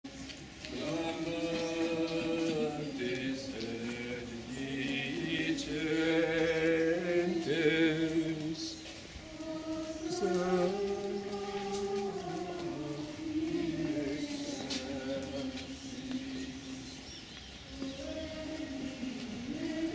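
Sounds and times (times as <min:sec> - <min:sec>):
voices singing a chant: 0:00.0 - 0:19.9.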